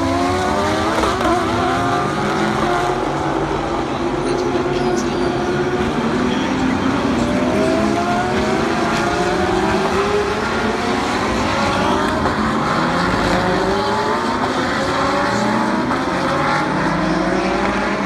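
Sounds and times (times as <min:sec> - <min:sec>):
race cars accelerating past: 0:00.0 - 0:18.0.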